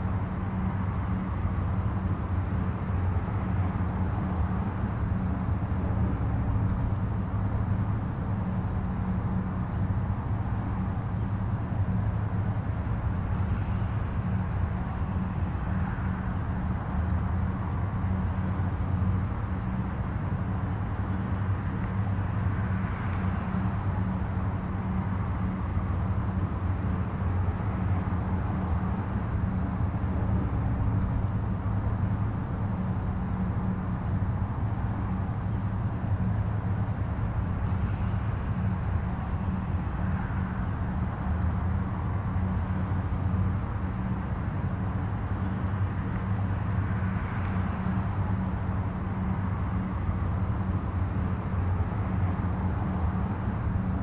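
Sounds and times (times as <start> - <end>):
distant highway traffic rumble: 0.0 - 54.0
vehicles passing: 0.0 - 54.0.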